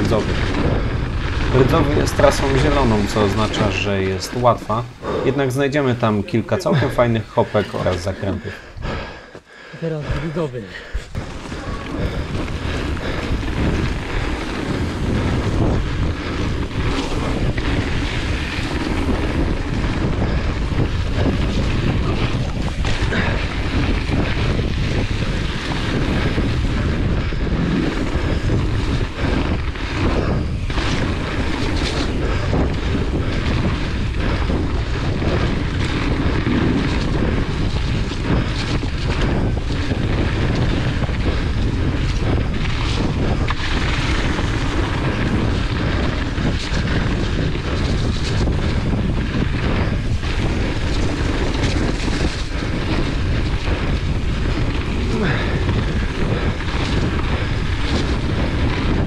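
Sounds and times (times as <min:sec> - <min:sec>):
bike tyres rolling on dirt: 0:00.0 - 0:59.0
wind buffeting microphone: 0:00.0 - 0:59.0
bike knocks and rattles: 0:11.2 - 0:59.0.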